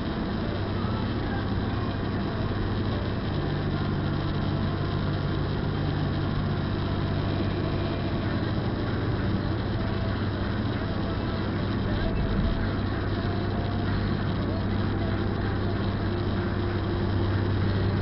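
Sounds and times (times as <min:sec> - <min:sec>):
car engine hum: 0:00.0 - 0:18.0.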